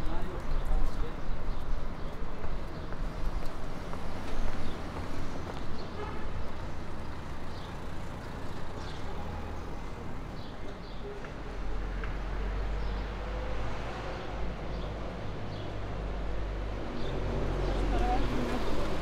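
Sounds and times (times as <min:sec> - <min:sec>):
ticks and clatters of street life: 0:00.0 - 0:19.0
traffic rumble: 0:00.0 - 0:19.0.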